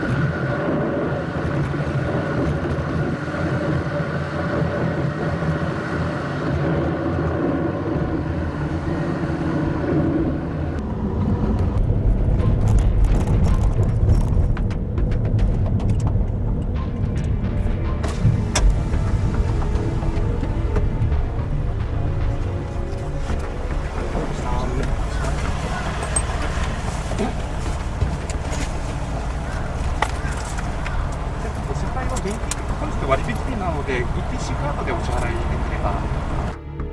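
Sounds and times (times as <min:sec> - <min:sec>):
car road and tyre noise: 0:00.0 - 0:36.9
low rumble: 0:00.0 - 0:36.9.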